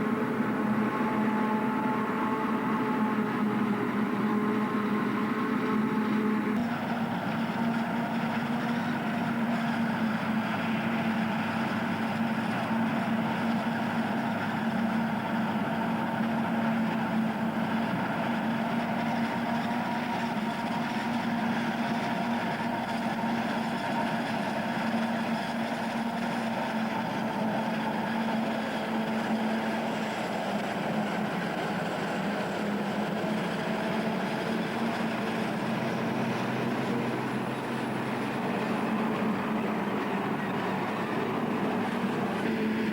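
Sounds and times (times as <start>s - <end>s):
harvester running: 0.0s - 42.9s.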